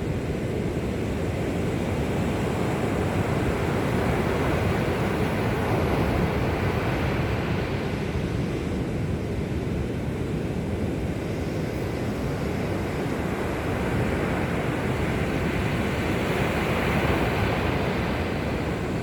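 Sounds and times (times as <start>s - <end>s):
sea surf washing on shore: 0.0s - 19.0s
wind rumble on microphone: 0.0s - 19.0s.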